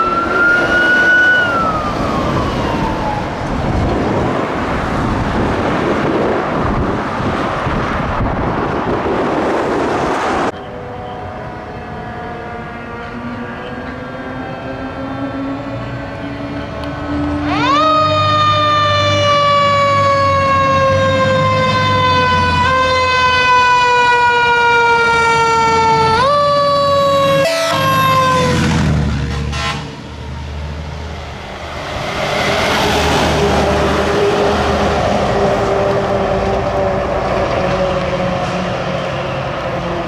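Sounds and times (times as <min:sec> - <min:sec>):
fire engine siren: 0:00.0 - 0:07.1, 0:07.8 - 0:40.0
heavy truck engine: 0:00.0 - 0:40.0
road noise: 0:00.0 - 0:40.0.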